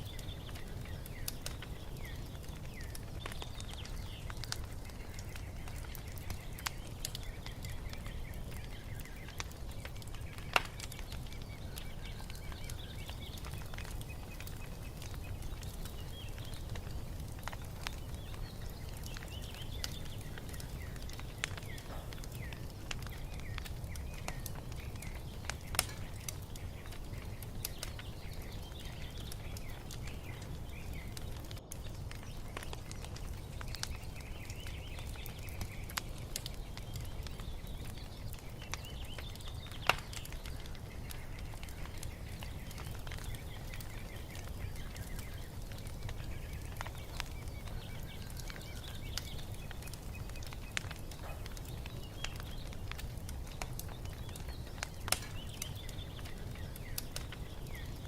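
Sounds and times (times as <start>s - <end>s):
small birds chirping: 0.0s - 58.0s
wood fire crackling: 0.0s - 58.0s.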